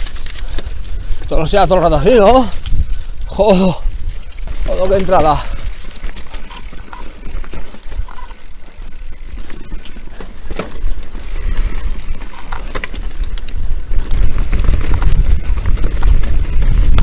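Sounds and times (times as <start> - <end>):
bike clacking and rattling: 0.0 - 17.0
bike tyres rumbling on dirt trail: 0.0 - 17.0
wind buffeting microphone: 0.0 - 17.0.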